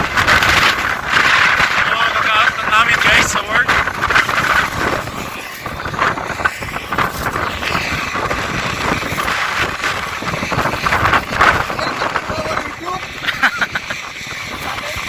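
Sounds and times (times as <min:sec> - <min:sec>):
gusty wind on microphone: 0:00.0 - 0:15.0.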